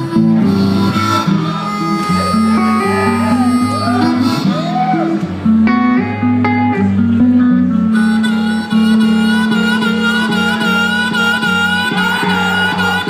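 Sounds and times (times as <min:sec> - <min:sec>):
blues guitar: 0:00.0 - 0:13.0.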